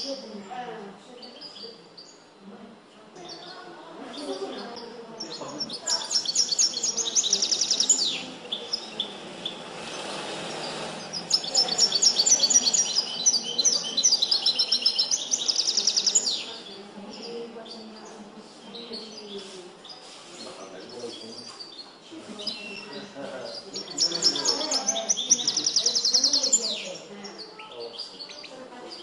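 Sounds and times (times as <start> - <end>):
goldfinch singing trills: 3.2 - 29.0.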